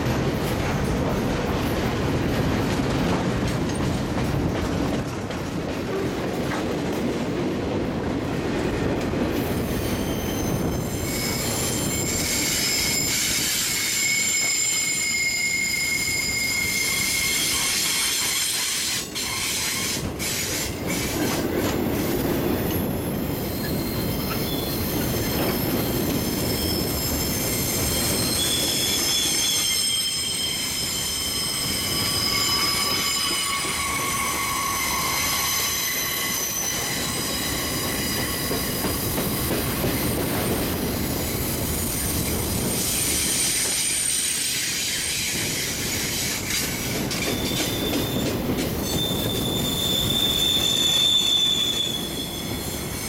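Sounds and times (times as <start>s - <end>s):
train rumble: 0.0s - 53.0s
train wheels squealing: 9.4s - 53.0s.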